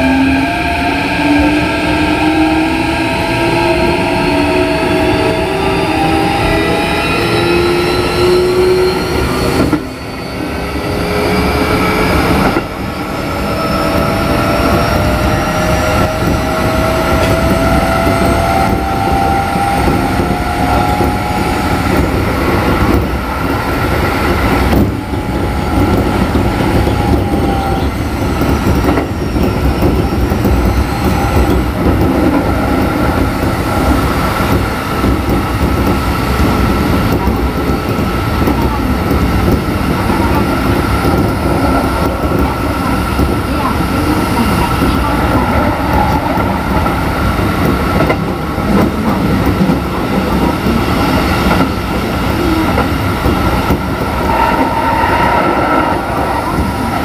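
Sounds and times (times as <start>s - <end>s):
electric train inverter whine: 0.0s - 57.0s
wheel and rail rumble: 0.0s - 57.0s.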